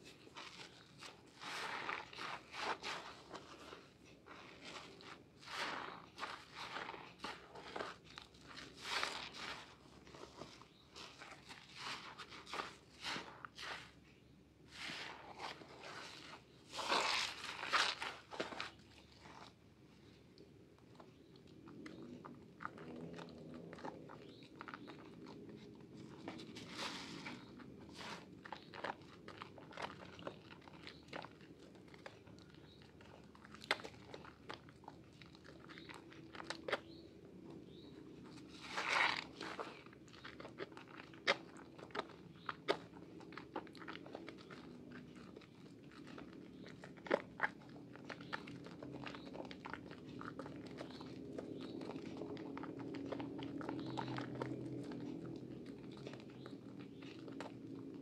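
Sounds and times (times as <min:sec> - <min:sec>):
wet sponge squishes: 0:00.0 - 0:58.0.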